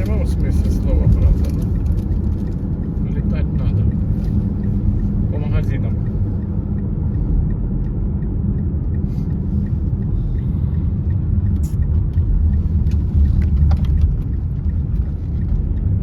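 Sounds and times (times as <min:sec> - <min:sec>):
car engine and road rumble: 0:00.0 - 0:16.0
faint regular ticking: 0:00.0 - 0:16.0.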